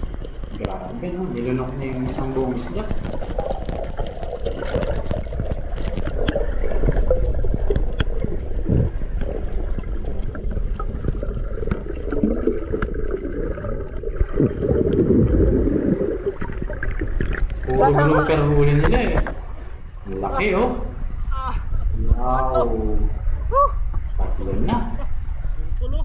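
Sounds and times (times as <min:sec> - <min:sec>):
muffled underwater rushing and gurgling: 0:00.0 - 0:26.0.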